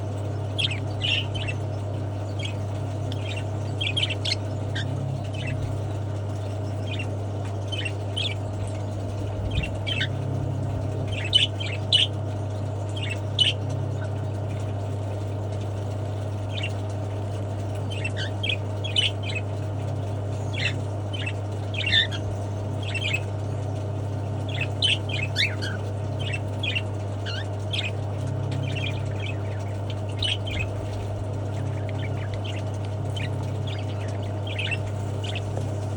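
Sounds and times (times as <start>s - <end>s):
steady low hum: 0.0s - 35.9s
cockatiels chirping and squawking: 0.3s - 15.0s, 15.7s - 16.9s, 17.6s - 35.9s.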